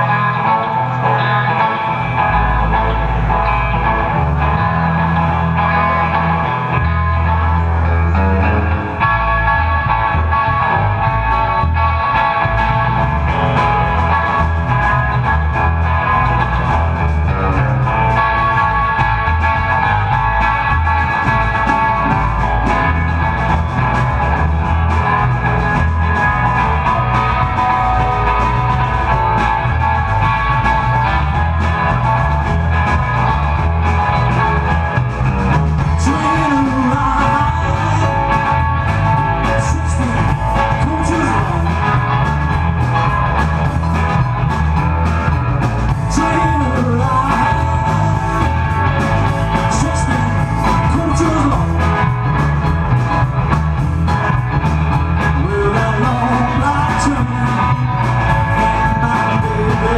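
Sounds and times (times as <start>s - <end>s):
live rock and roll band: 0.0s - 59.9s.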